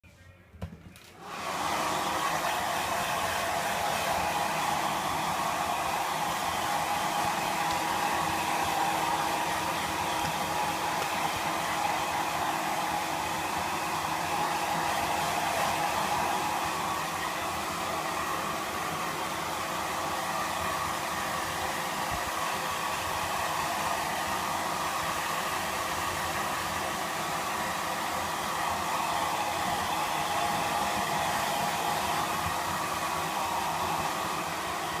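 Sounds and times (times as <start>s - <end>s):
hair dryer blowing: 1.1s - 35.0s.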